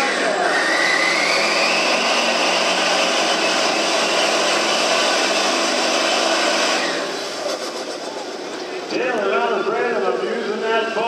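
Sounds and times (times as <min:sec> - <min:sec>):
truck engine running under load: 0:00.0 - 0:11.0.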